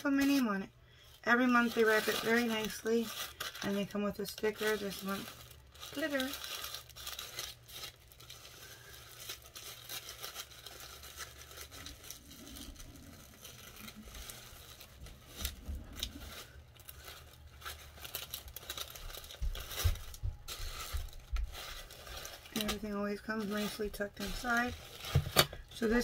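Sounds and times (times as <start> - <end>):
tissue paper rustling: 0.0 - 26.0.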